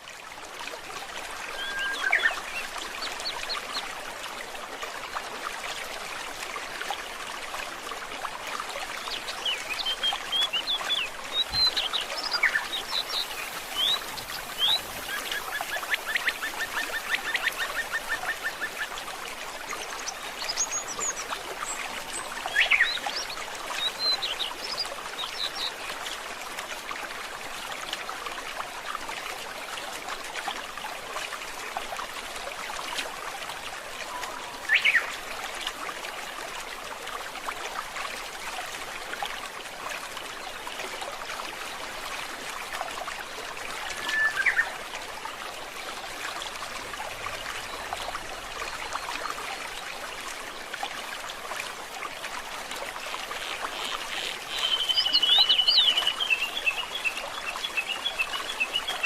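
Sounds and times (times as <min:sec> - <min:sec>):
stream trickling and babbling: 0:00.0 - 0:59.0.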